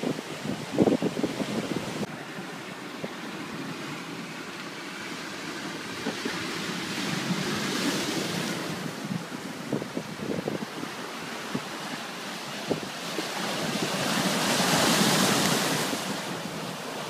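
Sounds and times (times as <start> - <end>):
wind buffeting microphone: 0.0 - 4.2, 5.5 - 17.0
ocean surf on rocks: 0.0 - 17.0.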